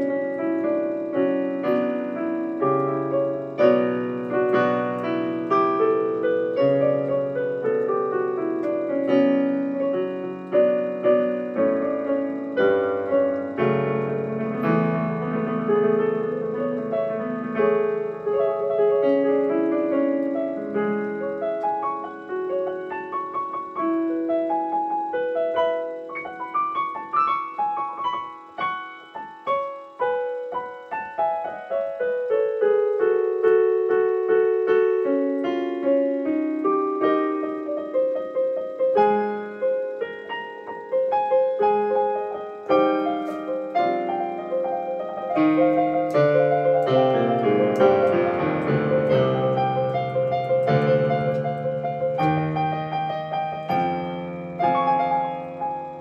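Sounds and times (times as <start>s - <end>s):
digital piano playing: 0.0s - 56.0s.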